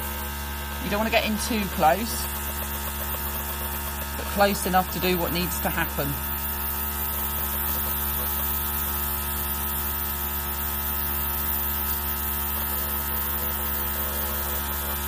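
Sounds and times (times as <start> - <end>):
airbrush hissing: 0.0 - 15.0
compressor humming: 0.0 - 15.0.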